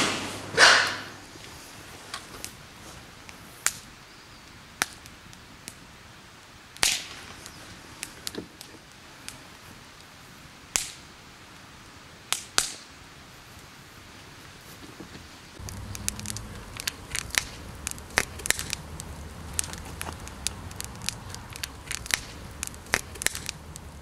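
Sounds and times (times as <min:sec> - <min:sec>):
torches crackling: 0:00.0 - 0:11.7, 0:13.4 - 0:24.0
faint steady hiss: 0:00.0 - 0:24.0.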